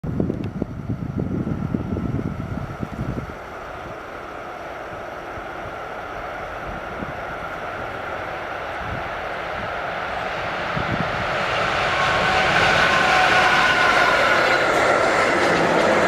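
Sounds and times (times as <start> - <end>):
wind buffeting microphone: 0.0 - 16.0
freight train rushing: 0.1 - 16.0.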